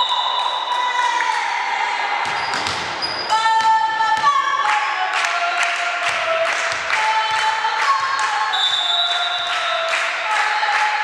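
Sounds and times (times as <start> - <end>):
women chanting a cheer: 0.0 - 2.5, 3.2 - 11.0.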